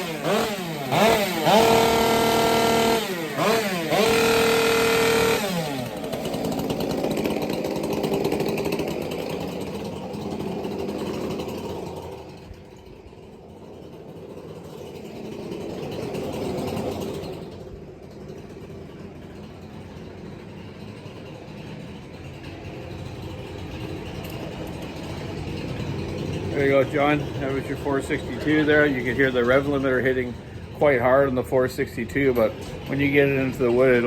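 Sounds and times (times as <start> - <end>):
chainsaw idling: 0.0 - 34.0.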